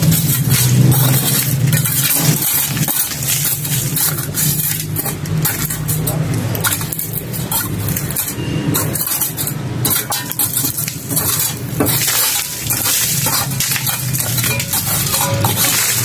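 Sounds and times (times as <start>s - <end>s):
broken cement bits falling: 0.0s - 16.0s
trowel scraping mortar: 0.0s - 16.0s.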